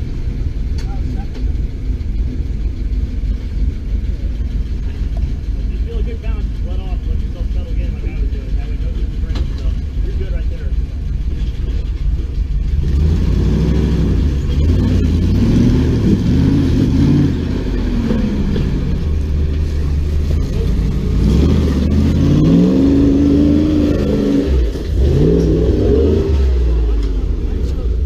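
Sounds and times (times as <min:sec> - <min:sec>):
engine revving: 0:04.8 - 0:28.0.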